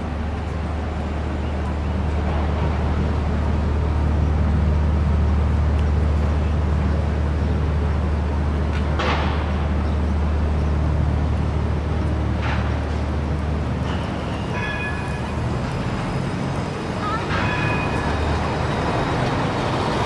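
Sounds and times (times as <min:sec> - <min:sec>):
heavy vehicle engine humming: 0:00.0 - 0:20.0
street traffic: 0:00.0 - 0:20.0.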